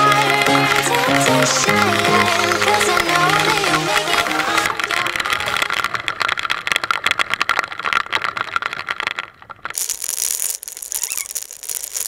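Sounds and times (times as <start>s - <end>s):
rain rattling on camera: 0.0s - 12.0s.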